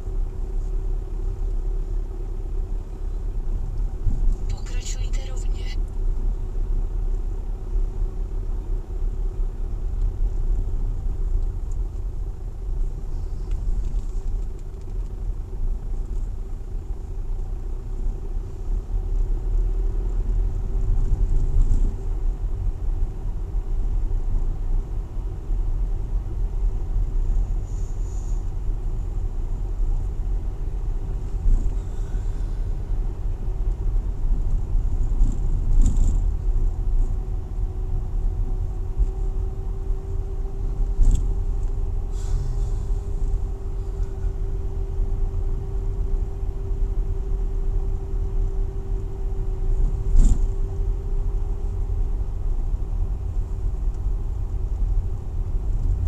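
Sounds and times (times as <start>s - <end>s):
car engine and road rumble: 0.0s - 56.0s
low hum: 0.0s - 56.0s.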